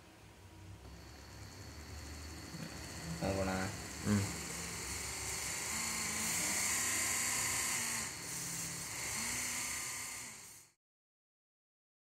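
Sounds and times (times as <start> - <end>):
lower hum: 0.0 - 9.8
electric motor whirring: 0.8 - 10.8.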